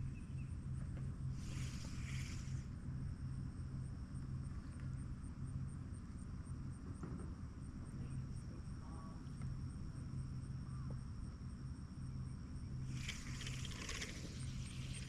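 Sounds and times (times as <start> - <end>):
insects chirping: 0.0 - 15.0
low hum: 0.0 - 15.0.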